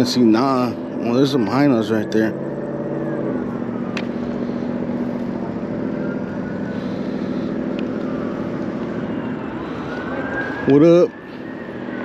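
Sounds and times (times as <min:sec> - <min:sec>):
electric bike humming: 0:00.0 - 0:12.0
traffic noise: 0:00.0 - 0:12.0.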